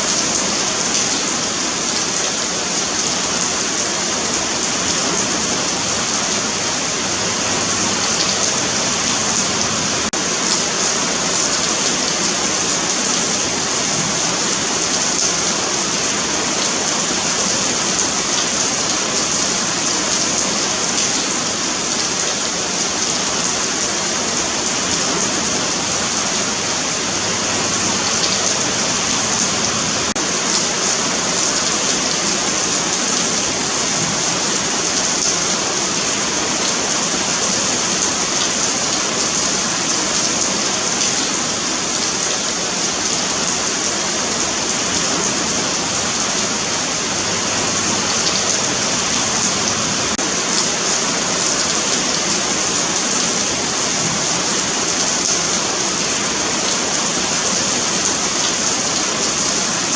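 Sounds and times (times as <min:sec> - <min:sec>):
rain on pavement: 0:00.0 - 0:59.9.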